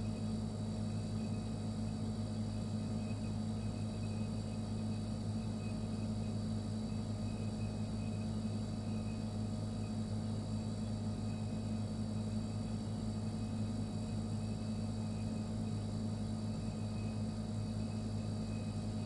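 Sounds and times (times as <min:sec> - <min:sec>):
refrigerator humming: 0:00.0 - 0:19.0.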